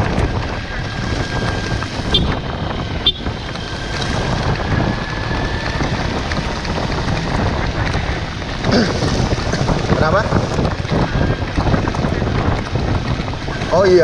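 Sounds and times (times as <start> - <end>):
motorcycle engine running: 0.0 - 14.0
wind rushing on microphone: 0.0 - 14.0.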